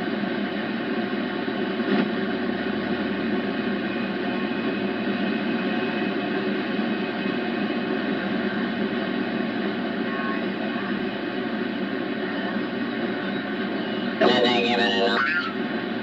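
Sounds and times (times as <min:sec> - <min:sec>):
radio band noise hiss: 0:00.0 - 0:16.0.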